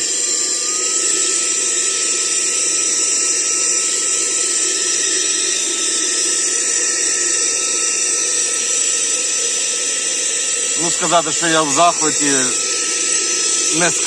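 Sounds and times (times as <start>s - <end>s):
car vacuum cleaner running: 0.0s - 14.0s.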